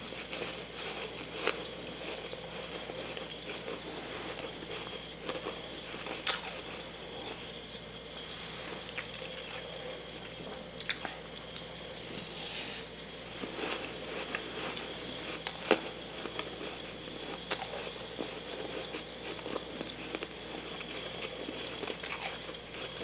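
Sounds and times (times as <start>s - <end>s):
person chewing frost: 0.0s - 7.6s, 8.7s - 23.0s
faint hum: 0.0s - 23.0s.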